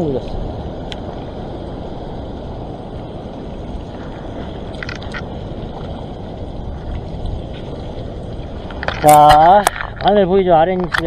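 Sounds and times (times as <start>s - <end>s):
sea water washing over rock: 0.0s - 11.0s.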